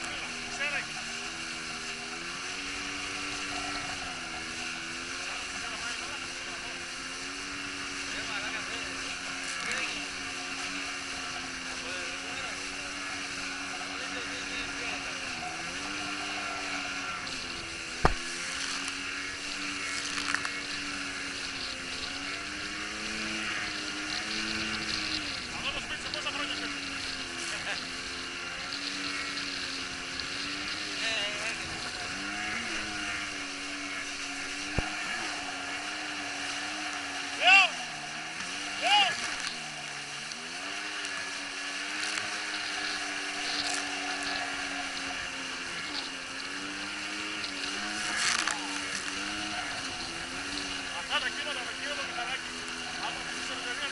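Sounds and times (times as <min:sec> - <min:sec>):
boat engine running: 0:00.0 - 0:53.9
spray and wind hissing: 0:00.0 - 0:53.9.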